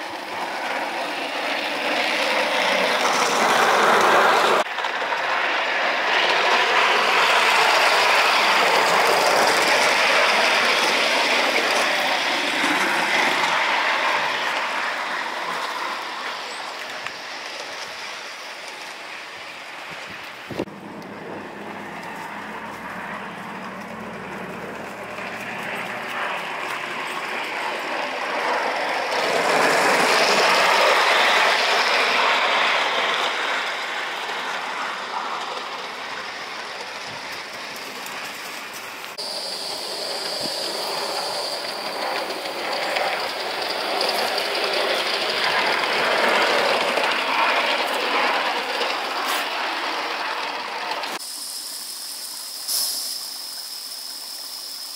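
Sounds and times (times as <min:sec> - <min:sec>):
model steam locomotive running: 0:00.0 - 0:54.9.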